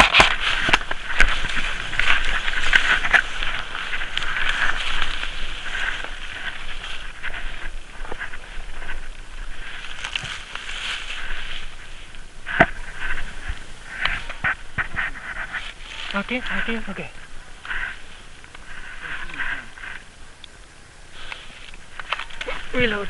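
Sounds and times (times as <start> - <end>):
dry leaves crackling and rustling: 0.0 - 23.0.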